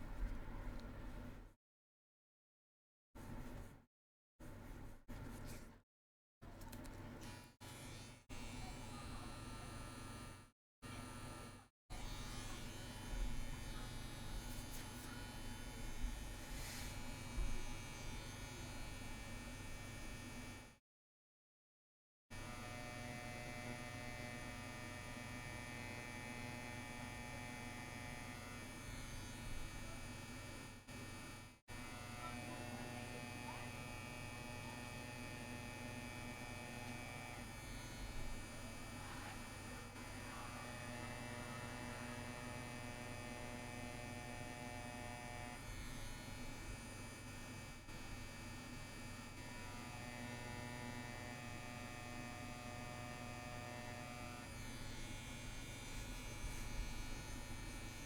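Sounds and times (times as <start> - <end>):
tattoo machine buzzing: 7.7 - 20.7, 22.4 - 58.0.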